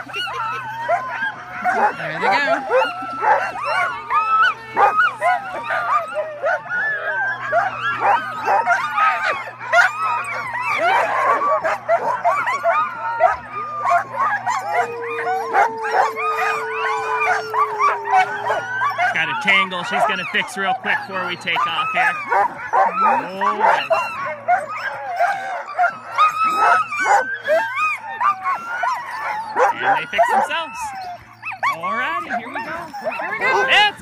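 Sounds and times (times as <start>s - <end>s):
dog howling: 0.0s - 34.0s
sled dogs barking and howling: 0.0s - 34.0s.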